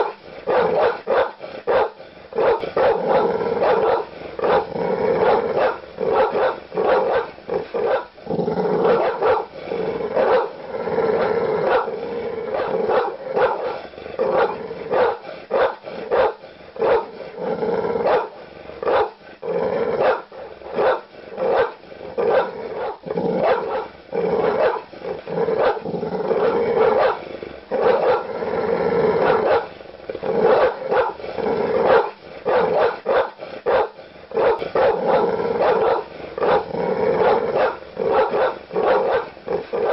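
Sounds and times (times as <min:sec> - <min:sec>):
large dogs barking: 0:00.0 - 0:39.9.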